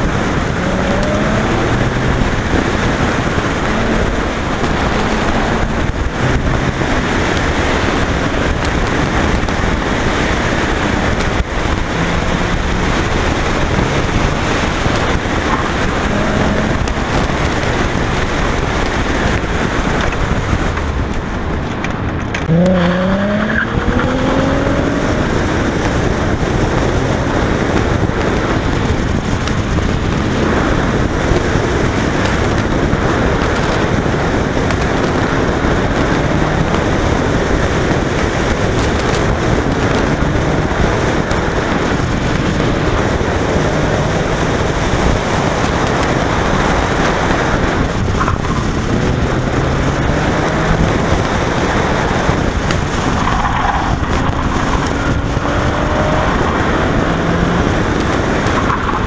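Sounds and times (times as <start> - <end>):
car engine accelerating: 0.0 - 59.0
road and wind rumble: 0.0 - 59.0.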